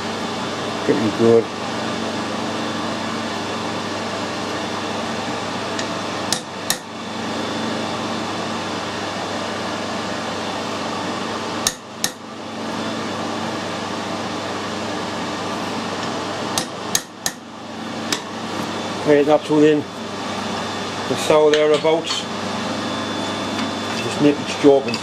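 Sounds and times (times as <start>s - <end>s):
steady workshop hum: 0.0s - 25.0s.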